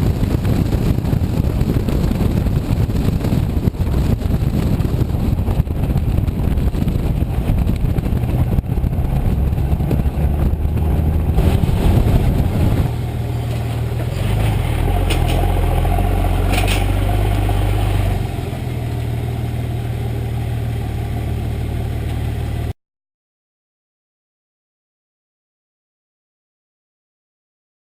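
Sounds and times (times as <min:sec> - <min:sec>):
diesel engine exhaust: 0:00.0 - 0:22.8.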